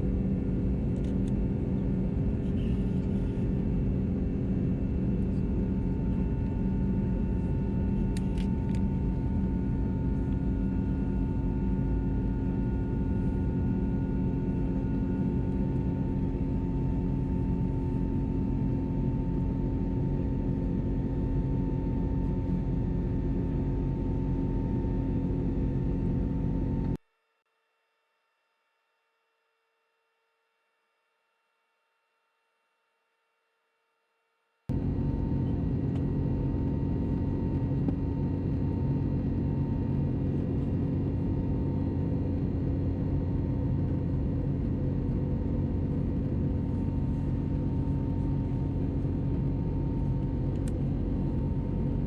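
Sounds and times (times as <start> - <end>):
jet engine cabin rumble: 0.0 - 27.0, 34.7 - 52.0.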